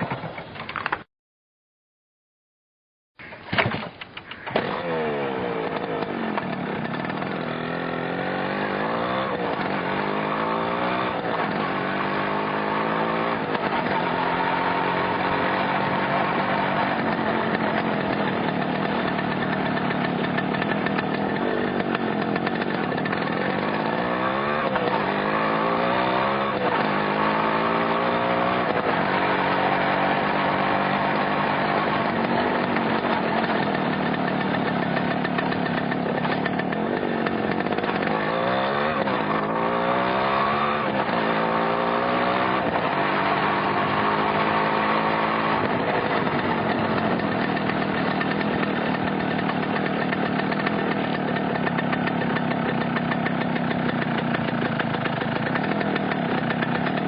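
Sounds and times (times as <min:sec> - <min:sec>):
motorcycle engine revving: 0:04.3 - 0:57.0.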